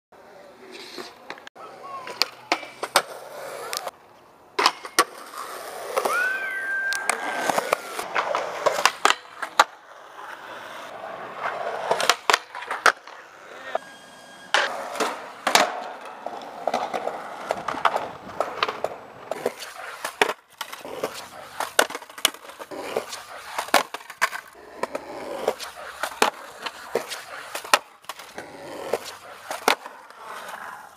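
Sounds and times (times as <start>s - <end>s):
skateboard wheels rolling on concrete: 0.2s - 30.9s
skateboard pops and slaps: 0.8s - 4.0s, 4.6s - 6.3s, 6.9s - 9.8s, 11.4s - 13.2s, 14.5s - 30.9s.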